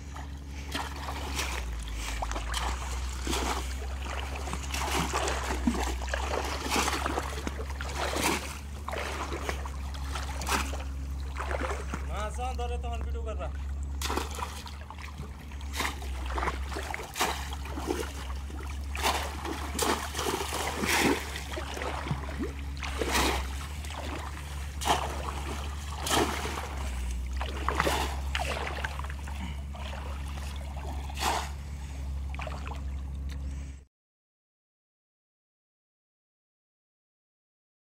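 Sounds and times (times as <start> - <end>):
splashing in shallow water: 0.0 - 12.8, 13.4 - 33.6
steady low hum: 0.0 - 33.9.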